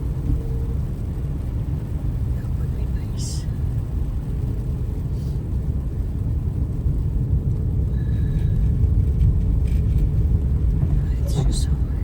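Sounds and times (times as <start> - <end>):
car driving inside cabin: 0.0 - 12.0.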